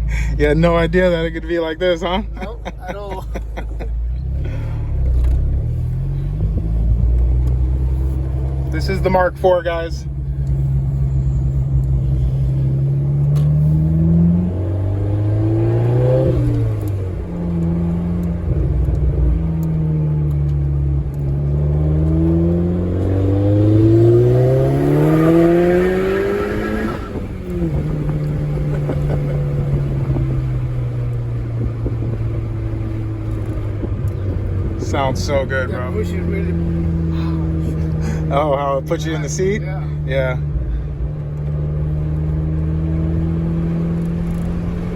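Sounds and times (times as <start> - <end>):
car engine accelerating hard: 0.0 - 44.9.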